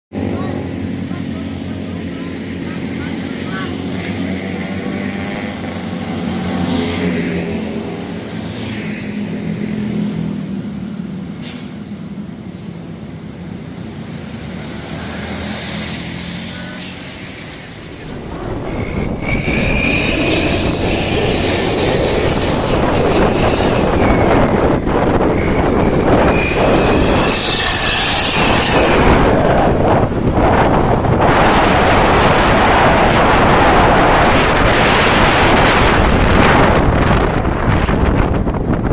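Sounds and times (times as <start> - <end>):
bus engine roaring through exhaust: 0.1 - 38.9.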